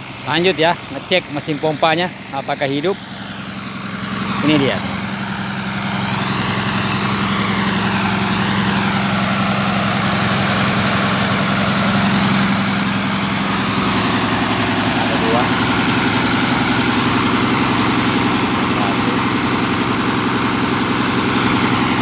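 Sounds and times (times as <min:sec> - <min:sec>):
engine-driven water pump running: 0:00.0 - 0:22.0.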